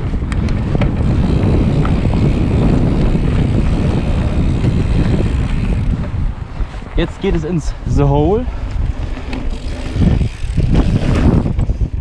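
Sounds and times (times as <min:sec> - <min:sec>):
bike tyres rumbling on dirt: 0:00.0 - 0:12.0
wind buffeting microphone: 0:00.0 - 0:12.0.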